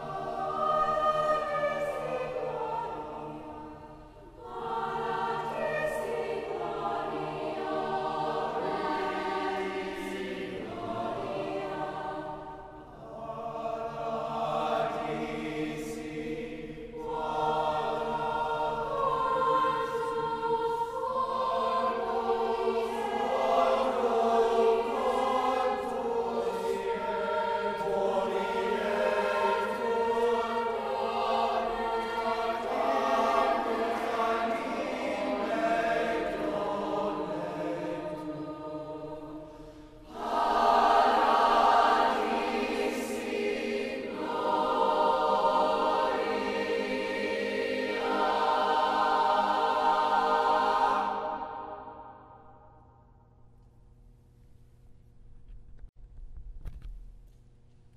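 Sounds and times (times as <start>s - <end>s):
choir singing sustained chords: 0.0s - 53.4s.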